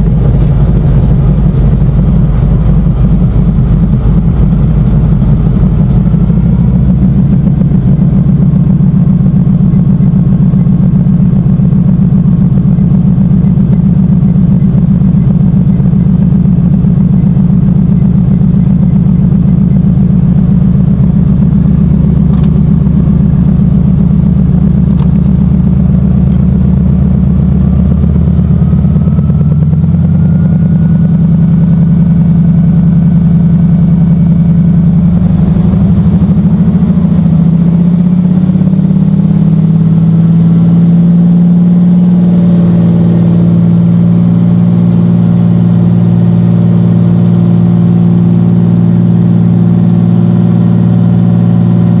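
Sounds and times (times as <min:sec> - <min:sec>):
radial aircraft engine and propeller: 0:00.0 - 0:52.0.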